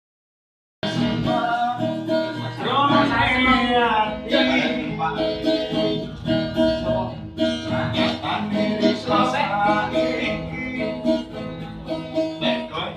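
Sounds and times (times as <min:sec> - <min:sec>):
person singing: 0:00.8 - 0:12.9
strummed acoustic guitar: 0:00.8 - 0:12.9.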